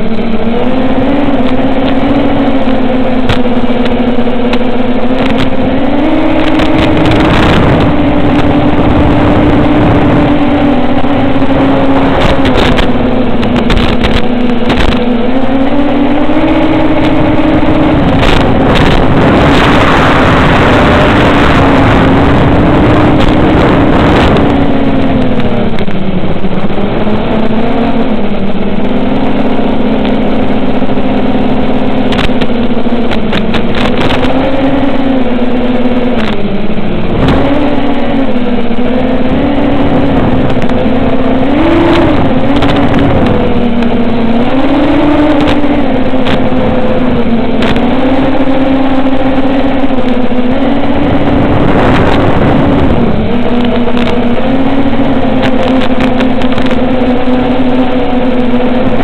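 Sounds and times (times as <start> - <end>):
rushing air: 0.0 - 29.7, 32.1 - 56.8
drone motors buzzing whine: 0.0 - 59.0.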